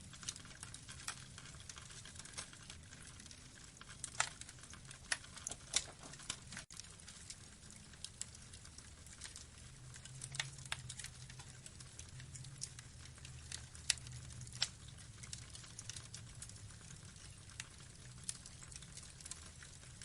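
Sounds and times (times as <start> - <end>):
burning logs crackling: 0.0 - 20.0.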